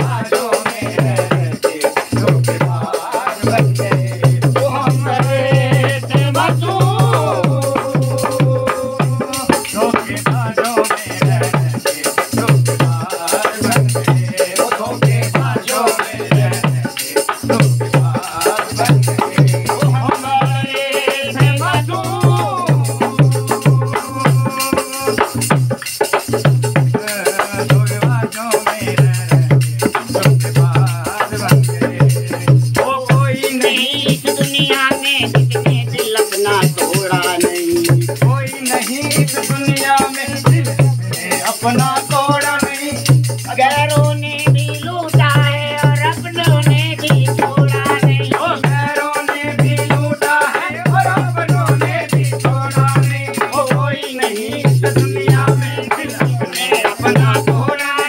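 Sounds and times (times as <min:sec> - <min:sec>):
deep drum beat: 0:00.0 - 0:58.0
rattling percussion: 0:00.0 - 0:58.0
recorded song with vocals: 0:00.0 - 0:58.0.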